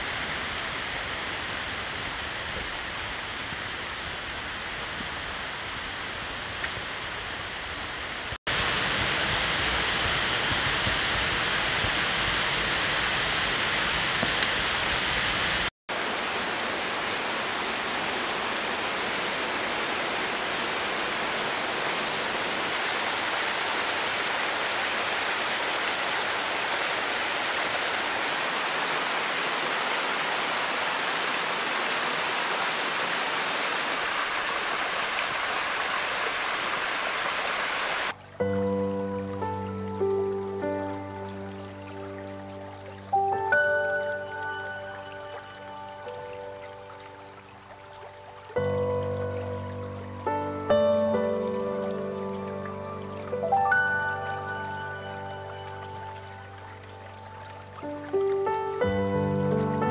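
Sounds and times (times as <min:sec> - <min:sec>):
mountain stream rushing: 0:00.0 - 0:38.5, 0:39.4 - 0:59.9.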